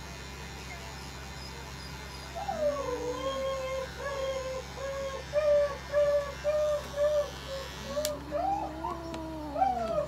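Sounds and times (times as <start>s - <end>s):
electric pet clipper buzzing: 0.0s - 10.0s.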